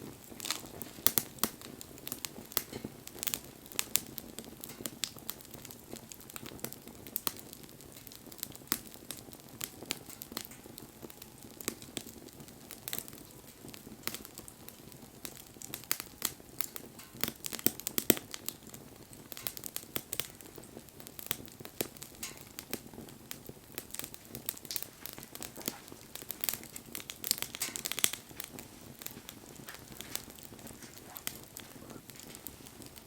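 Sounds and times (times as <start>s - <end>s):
wood fire crackling: 0.0s - 33.0s
sharp pops and snaps: 0.2s - 33.0s.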